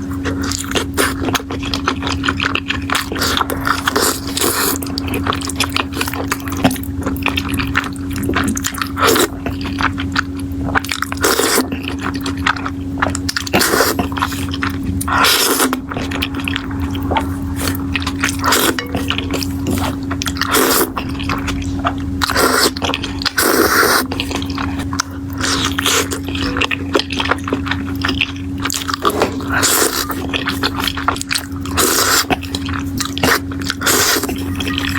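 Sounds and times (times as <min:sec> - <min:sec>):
steady low hum: 0:00.0 - 0:34.9
wet chewing and slurping: 0:00.0 - 0:34.9.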